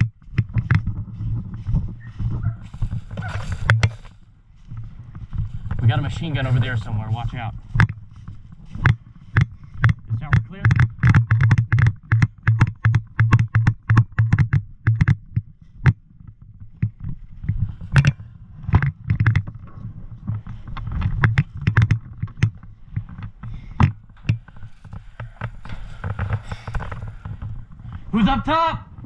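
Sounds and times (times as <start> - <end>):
footsteps: 0.0 - 11.4, 15.3 - 29.0
gear knocking: 0.0 - 29.0.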